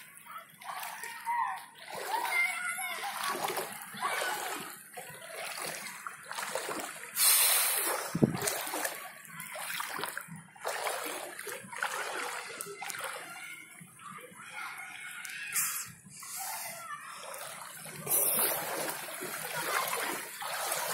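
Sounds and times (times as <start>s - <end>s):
wading through floodwater: 0.0s - 20.9s.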